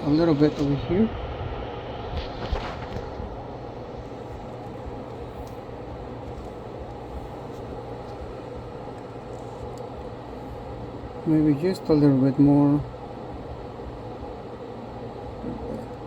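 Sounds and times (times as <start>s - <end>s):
fan whirring: 0.0s - 16.0s.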